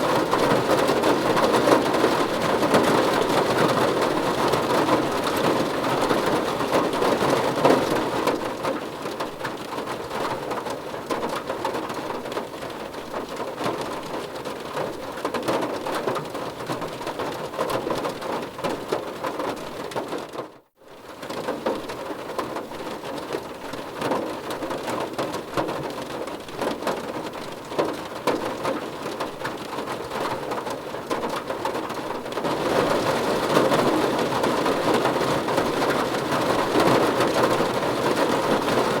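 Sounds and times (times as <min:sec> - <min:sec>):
rain on car roof: 0:00.0 - 0:39.0.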